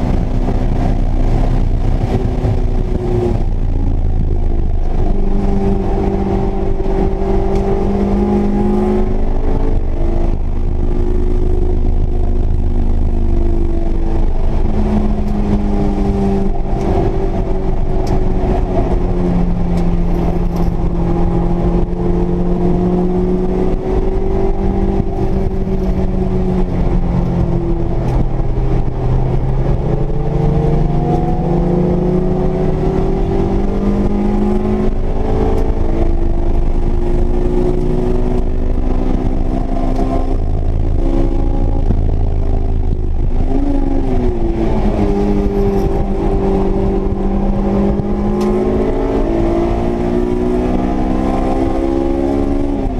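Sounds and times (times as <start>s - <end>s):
road rumble: 0.0s - 52.9s
sports car engine revving: 0.0s - 52.9s
wind: 0.0s - 52.9s.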